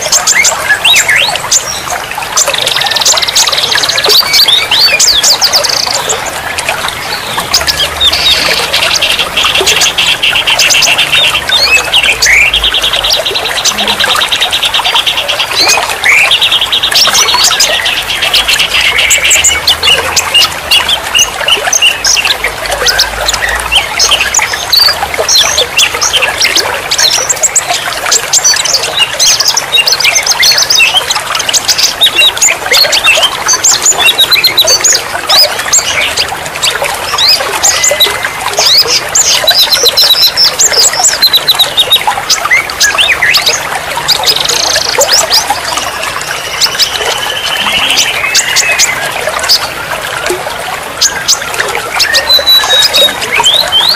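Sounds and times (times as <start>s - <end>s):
running water trickling: 0.0s - 53.9s
songbirds chirping: 0.0s - 53.9s.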